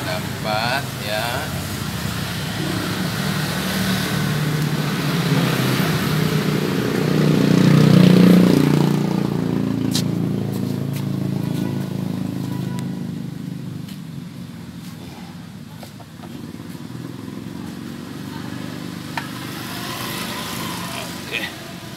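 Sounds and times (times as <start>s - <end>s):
vehicle passing by: 0.0s - 15.4s, 16.4s - 21.9s.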